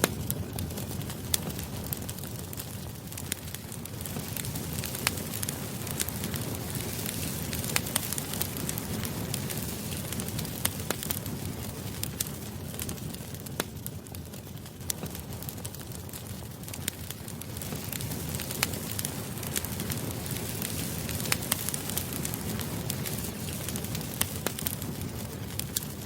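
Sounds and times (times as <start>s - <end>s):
low rumble of flames: 0.0s - 26.0s
wood crackles and pops: 0.0s - 26.0s.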